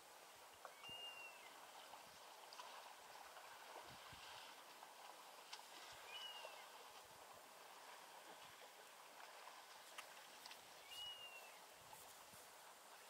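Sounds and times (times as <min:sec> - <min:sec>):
faint flowing river water: 0:00.0 - 0:13.0.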